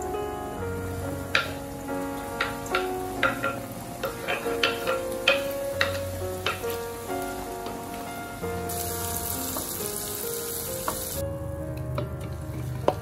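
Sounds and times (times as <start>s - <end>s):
onion sizzling in a pan: 0.0s - 11.2s
soft background music: 0.0s - 13.0s.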